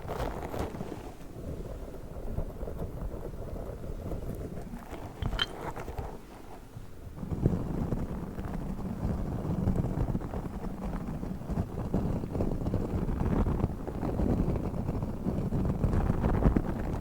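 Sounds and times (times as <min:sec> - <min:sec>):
object rubbed against microphone: 0:00.0 - 0:16.9.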